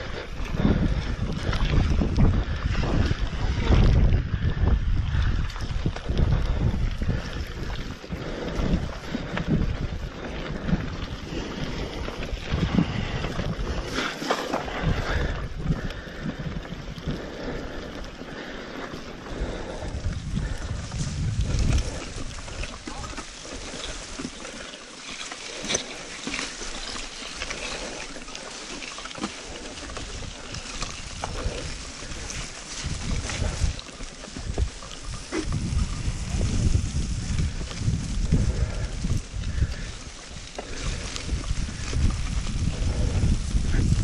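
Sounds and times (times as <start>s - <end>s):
wind gusting on microphone: 0.0s - 24.4s, 25.6s - 44.0s
bike tyres splashing over rocks: 0.0s - 44.0s.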